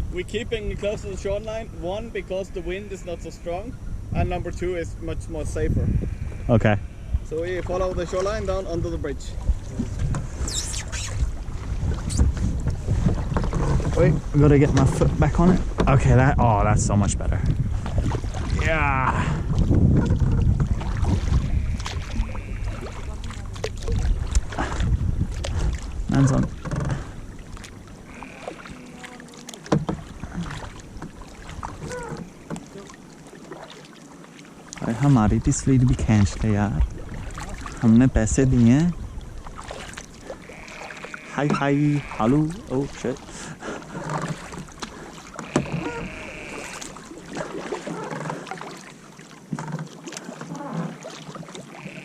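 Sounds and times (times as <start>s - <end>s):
paddle splashing in water: 9.3s - 16.4s, 17.2s - 52.0s.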